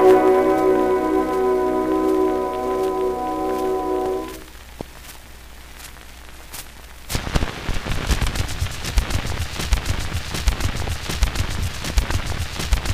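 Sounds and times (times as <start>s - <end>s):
record crackle and pops: 0.0s - 12.9s
record surface hiss: 0.0s - 12.9s.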